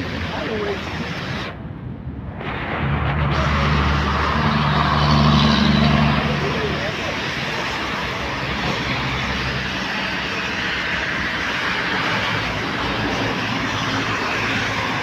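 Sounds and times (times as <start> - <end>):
heavy rain: 0.0 - 15.0
road traffic: 0.0 - 15.0.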